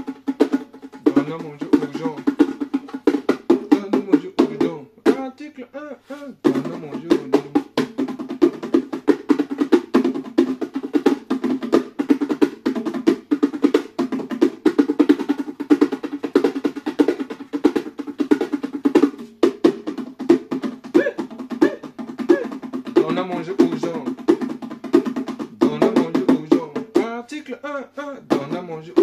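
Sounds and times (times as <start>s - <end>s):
bongo drums played by hand: 0.0s - 29.0s.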